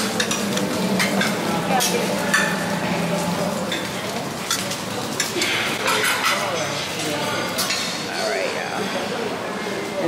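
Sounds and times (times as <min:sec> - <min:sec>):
murmur of diners: 0:00.0 - 0:10.0.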